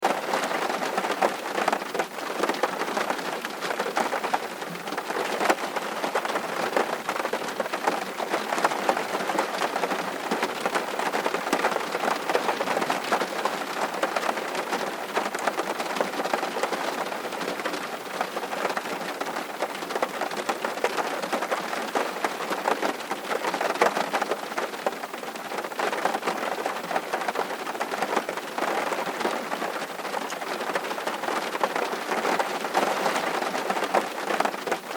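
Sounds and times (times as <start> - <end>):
raindrops ticking close by: 0.0 - 34.9
steady rain hissing: 0.0 - 34.9.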